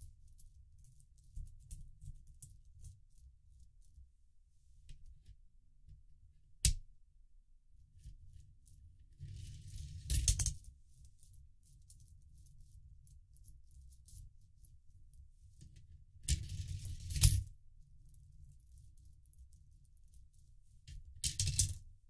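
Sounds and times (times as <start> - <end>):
faint clicks of coins handled: 0.0 - 4.1, 8.0 - 22.0.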